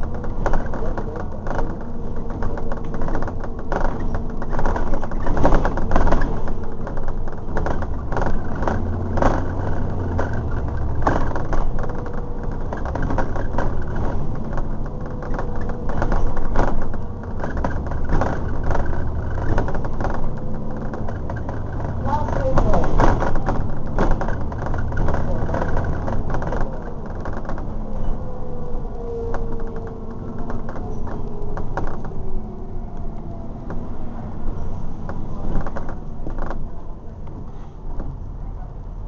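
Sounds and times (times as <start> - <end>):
bus body and windows rattling: 0.0 - 39.0
bus engine running: 0.0 - 39.0.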